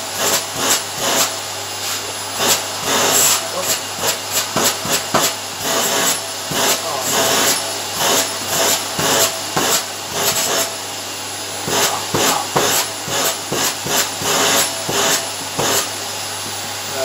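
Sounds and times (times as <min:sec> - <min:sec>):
vacuum cleaner on carpet: 0:00.0 - 0:17.0.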